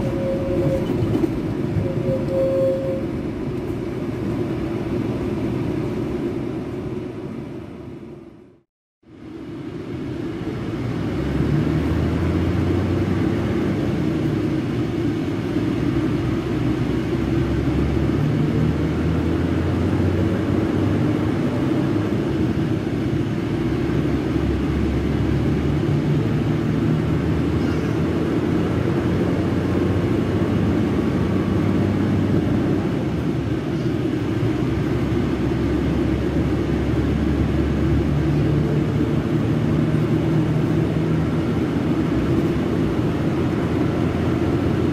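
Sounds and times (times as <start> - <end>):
diesel bus engine running: 0.0 - 44.9.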